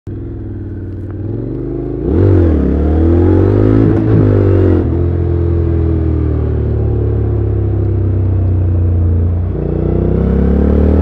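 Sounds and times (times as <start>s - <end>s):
motorcycle engine accelerating: 0.1s - 11.0s.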